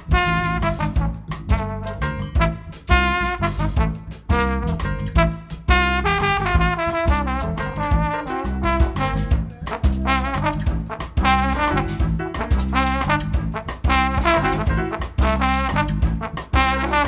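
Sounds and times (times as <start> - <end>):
bass: 0.0 - 17.0
drums and congas: 0.0 - 17.0
trombone lead line: 0.0 - 17.0.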